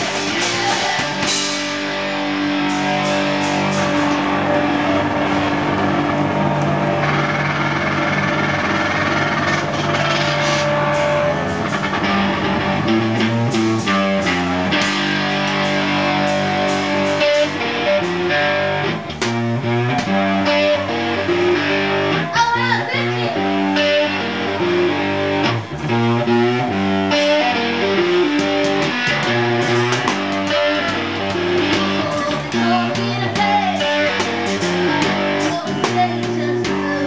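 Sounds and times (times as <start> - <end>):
drums: 0.0 - 37.0
electric guitar: 0.0 - 37.0.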